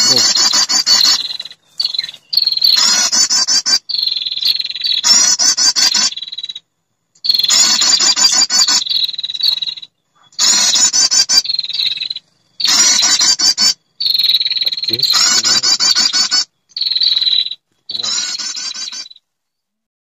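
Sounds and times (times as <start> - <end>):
bird trilling: 0.0 - 6.6, 7.2 - 19.2.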